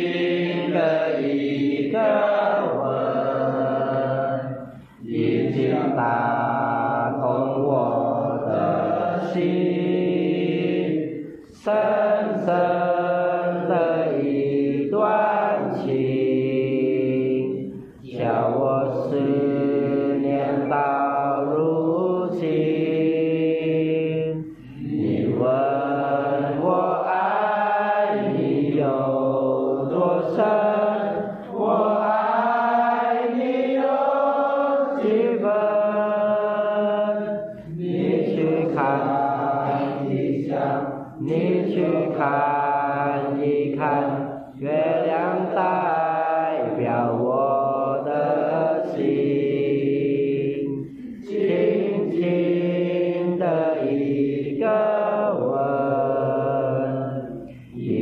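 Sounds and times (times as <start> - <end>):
group reciting aloud in unison: 0.0 - 58.0.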